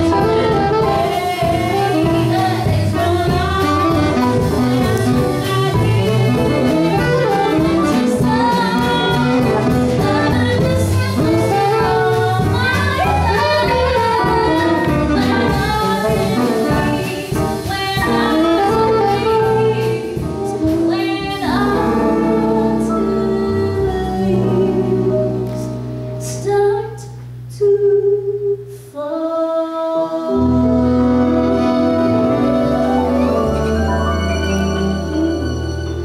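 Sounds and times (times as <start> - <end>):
jazz band playing: 0.0 - 28.7, 30.0 - 36.0.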